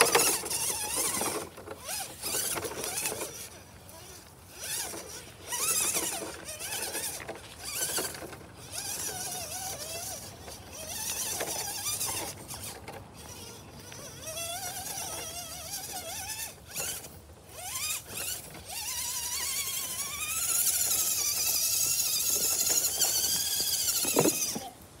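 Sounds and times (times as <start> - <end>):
toy car electric motor whining: 0.0 - 24.8
tyres knocking and scrabbling on rocks: 0.0 - 24.8.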